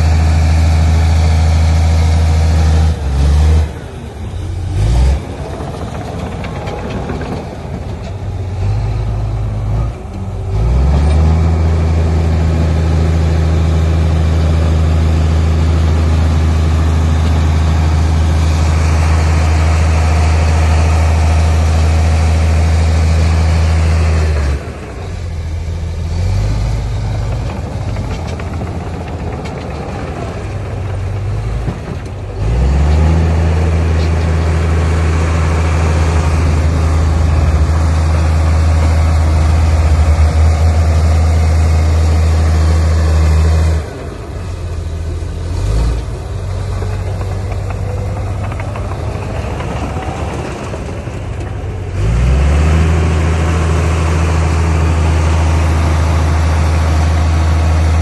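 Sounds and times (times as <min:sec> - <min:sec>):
heavy diesel engine revving: 0:00.0 - 0:58.0.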